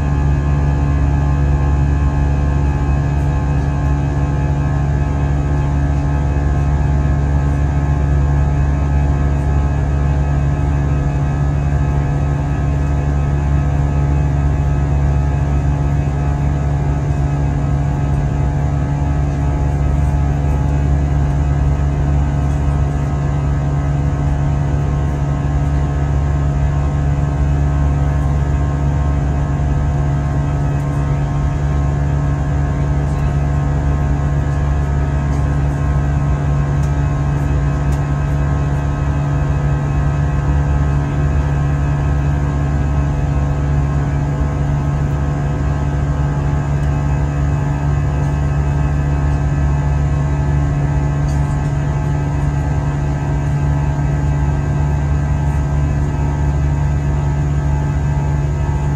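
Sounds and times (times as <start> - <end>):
jet cabin low hum: 0.0 - 58.9.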